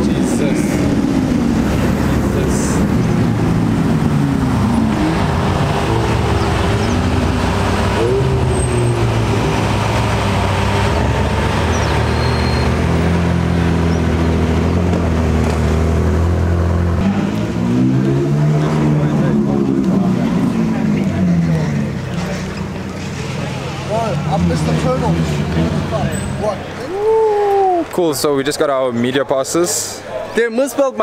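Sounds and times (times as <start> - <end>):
deep steady engine note: 0.0 - 27.8
sports car engines revving: 0.0 - 27.9.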